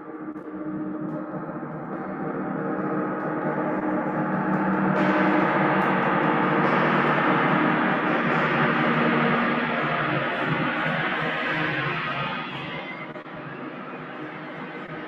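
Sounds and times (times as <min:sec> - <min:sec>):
gong played with mallet: 0:00.3 - 0:13.0.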